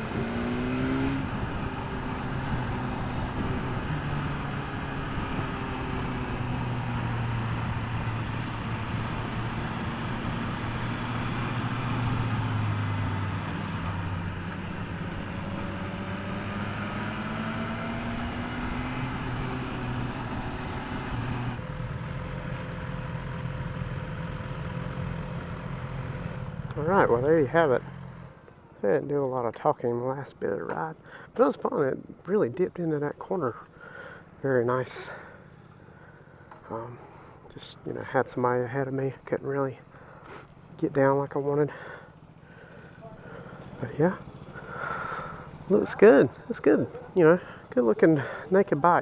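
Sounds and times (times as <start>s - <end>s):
motorcycle engine at low revs: 0.0s - 28.7s, 30.7s - 49.0s.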